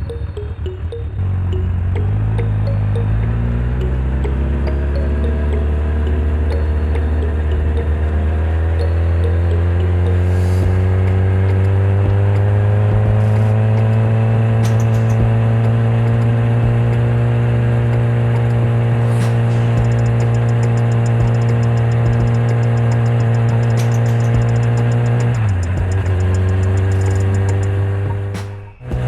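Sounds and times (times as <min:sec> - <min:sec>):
motorcycle engine running: 0:00.4 - 0:29.0.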